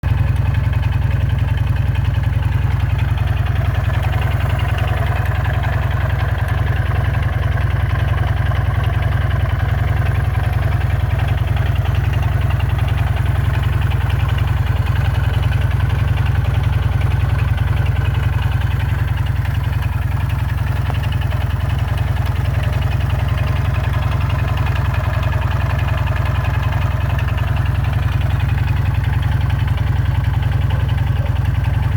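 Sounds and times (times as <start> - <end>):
motorcycle engine idling: 0.0 - 31.9
rapid regular engine knock: 0.0 - 31.9.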